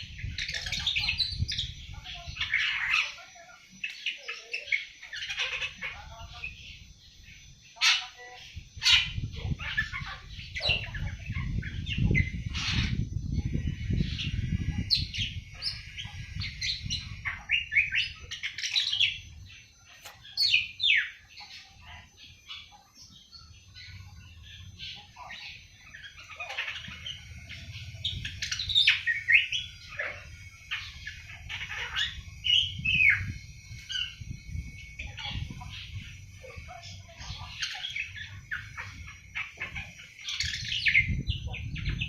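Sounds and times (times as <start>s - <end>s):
young bird twittering: 0.0s - 42.0s.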